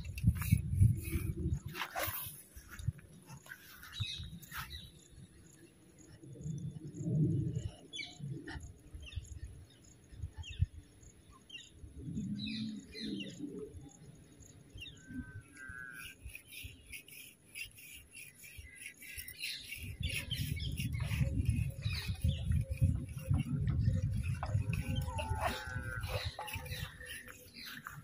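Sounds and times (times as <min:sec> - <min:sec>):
small birds chirping: 0:02.6 - 0:28.0.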